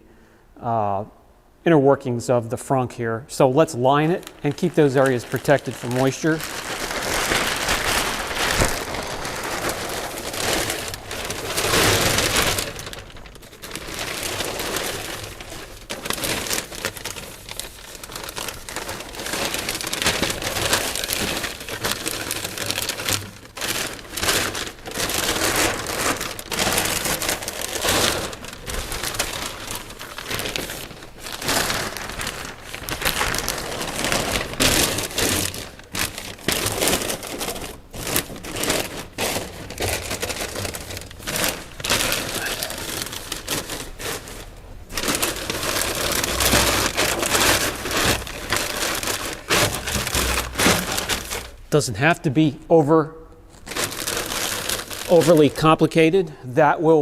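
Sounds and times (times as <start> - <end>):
lining material crinkling: 3.4 - 52.6, 53.4 - 56.3.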